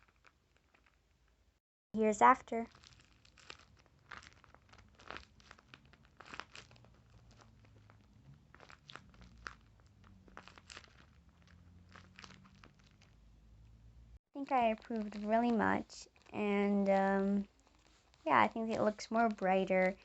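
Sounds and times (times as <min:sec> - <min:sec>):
paper and tape crinkling: 0:00.0 - 0:01.1, 0:02.5 - 0:13.2, 0:14.4 - 0:20.0.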